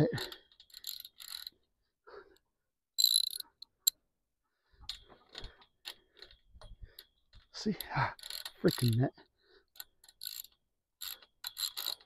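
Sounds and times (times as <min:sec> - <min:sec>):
metal pipe fitting clicks and squeaks: 0:00.0 - 0:01.6, 0:03.0 - 0:04.0, 0:04.8 - 0:12.0.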